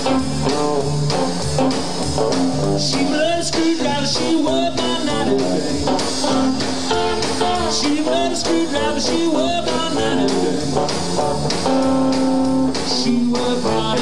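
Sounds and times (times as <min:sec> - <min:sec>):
blues-rock band playing: 0:00.0 - 0:14.0.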